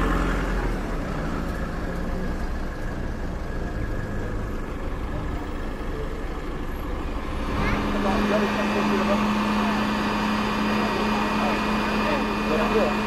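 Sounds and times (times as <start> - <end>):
fire truck diesel engine running: 0.0 - 13.0.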